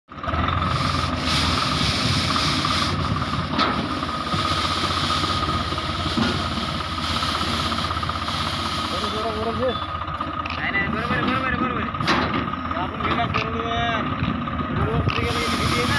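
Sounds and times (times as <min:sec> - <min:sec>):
road broom high whine: 0:00.1 - 0:15.9
tractor engine running: 0:00.1 - 0:15.9.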